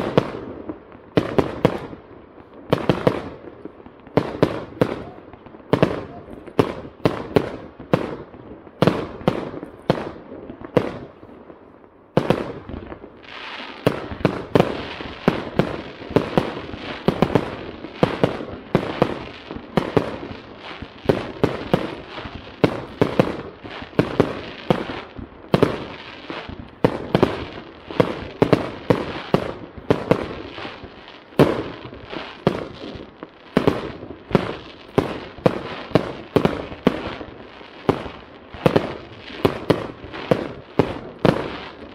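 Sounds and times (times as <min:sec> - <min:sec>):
fireworks bangs: 0:00.0 - 0:41.9
fireworks crackling: 0:00.0 - 0:41.9.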